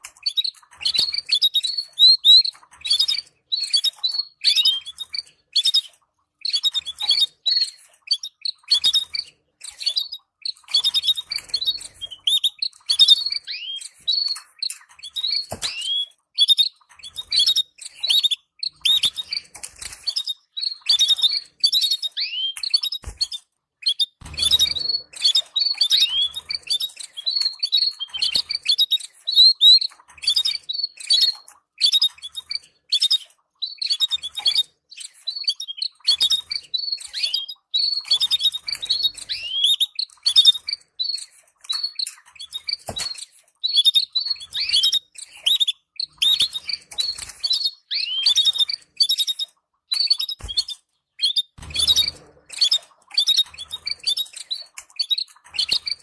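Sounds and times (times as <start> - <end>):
canaries chirping: 0.0 - 56.0.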